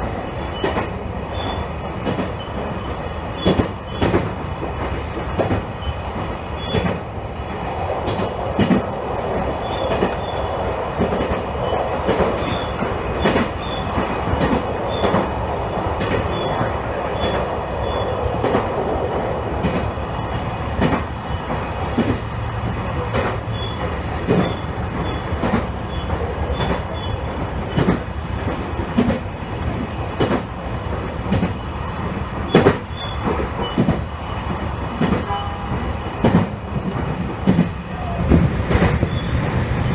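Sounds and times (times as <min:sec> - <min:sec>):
train wheels rumbling on rail: 0:00.0 - 0:39.9
wheels clacking over rail joints: 0:00.5 - 0:07.1, 0:07.9 - 0:39.9.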